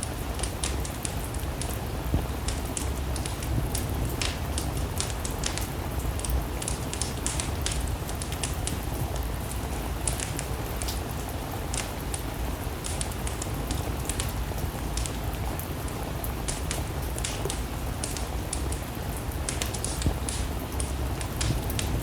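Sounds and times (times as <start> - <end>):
steady rain: 0.0 - 22.0
wood fire crackling: 0.0 - 22.0.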